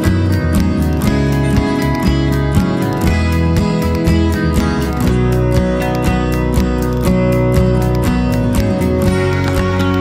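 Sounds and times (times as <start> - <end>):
upbeat music with strummed guitar: 0.0 - 10.0.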